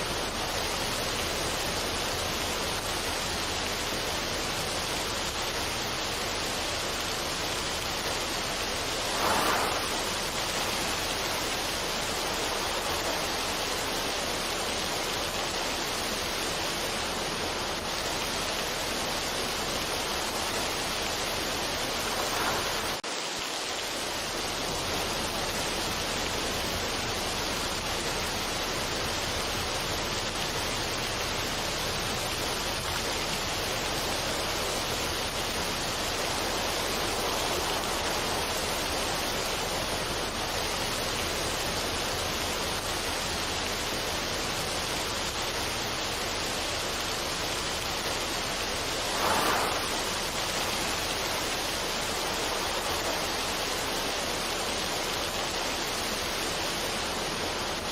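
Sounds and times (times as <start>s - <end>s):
steady rushing noise: 0.0s - 57.9s.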